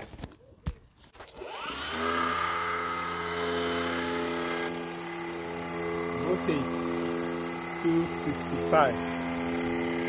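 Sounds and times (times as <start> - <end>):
electric motor whine: 1.2 - 10.0.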